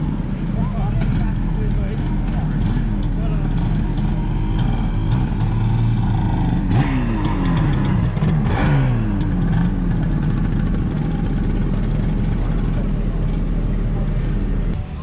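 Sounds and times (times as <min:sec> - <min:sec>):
vehicle engine revving down: 0:00.0 - 0:15.0.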